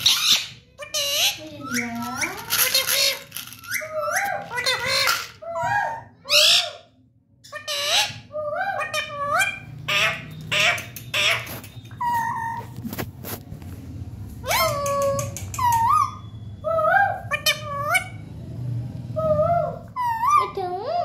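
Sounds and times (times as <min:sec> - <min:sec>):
parakeet squawking and chattering: 0:00.0 - 0:12.8, 0:14.4 - 0:18.4, 0:19.2 - 0:21.0.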